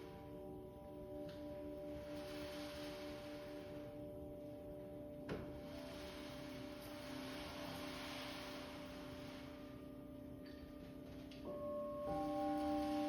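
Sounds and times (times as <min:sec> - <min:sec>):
crystal singing bowls ringing: 0:00.0 - 0:13.0.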